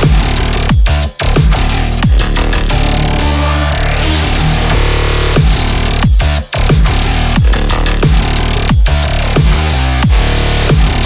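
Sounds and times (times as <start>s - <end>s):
electronic dance music: 0.0s - 11.0s
falling bass sweep: 0.0s - 11.0s
wobbling bass: 0.0s - 11.0s.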